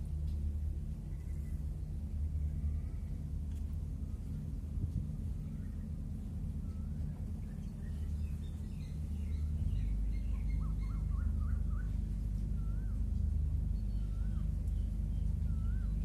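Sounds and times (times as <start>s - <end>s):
low rumble: 0.0s - 16.0s
small birds chirping: 1.0s - 3.2s, 5.3s - 16.0s.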